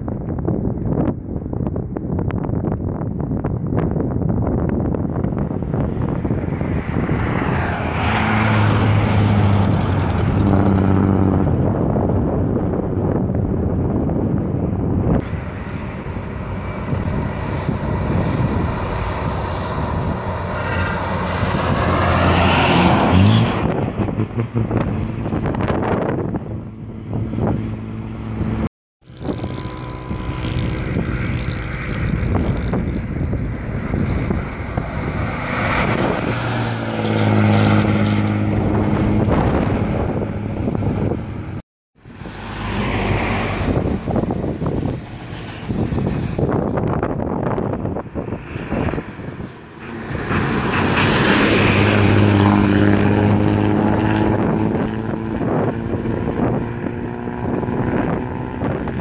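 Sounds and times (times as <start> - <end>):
diesel bus engines driving past: 4.5 - 59.0
bus engine accelerating: 5.3 - 58.8.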